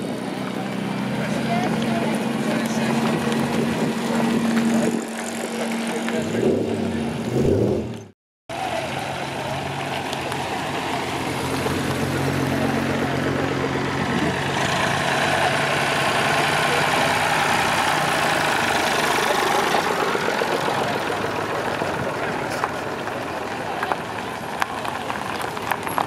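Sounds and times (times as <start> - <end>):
car engines driving past: 0.3 - 26.0.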